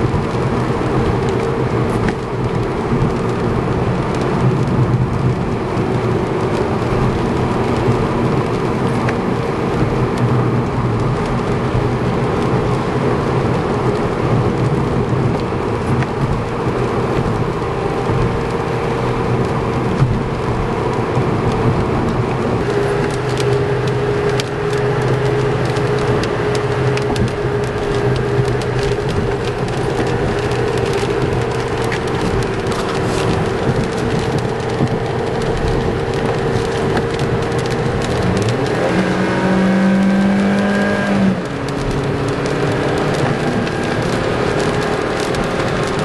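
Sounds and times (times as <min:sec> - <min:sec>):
rain on windshield: 0:00.0 - 0:46.0
windshield wipers running: 0:00.0 - 0:46.0.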